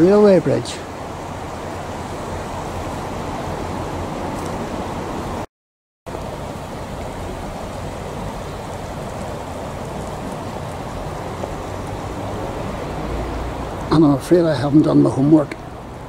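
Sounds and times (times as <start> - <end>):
river water rushing over stones: 0.0 - 5.5, 6.1 - 16.0.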